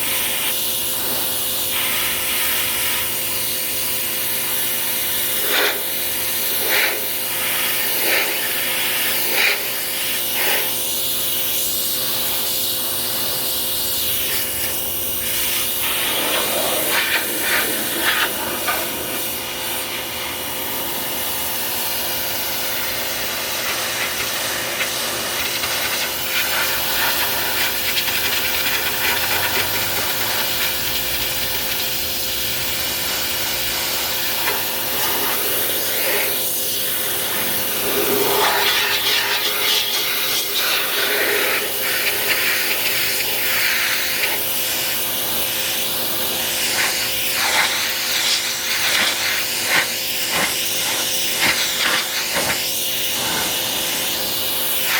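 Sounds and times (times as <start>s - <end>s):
pressure washer spraying: 0.0s - 54.9s.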